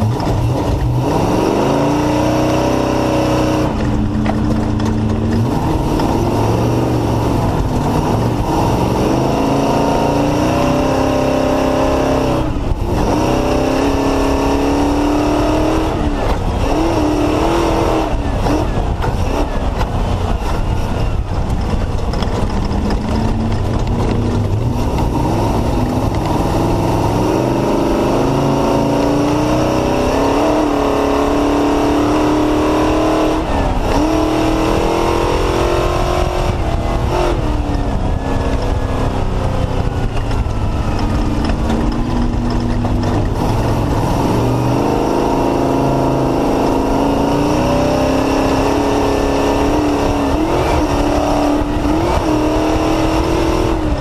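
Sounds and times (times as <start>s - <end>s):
car rumbling and rattling: 0.0s - 54.0s
race car engine revving: 0.0s - 54.0s.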